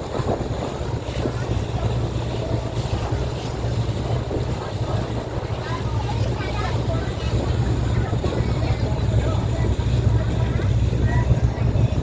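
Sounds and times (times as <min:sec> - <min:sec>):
boat engine droning: 0:00.0 - 0:12.0
water rushing along hull: 0:00.0 - 0:12.0
wind buffeting microphone: 0:00.0 - 0:12.0.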